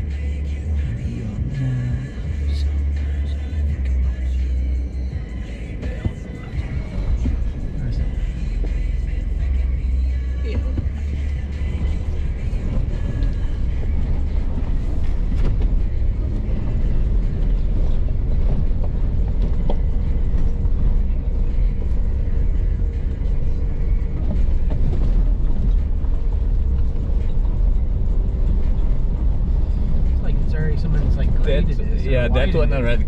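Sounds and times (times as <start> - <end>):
truck engine and tyres rumbling: 0.0 - 33.0.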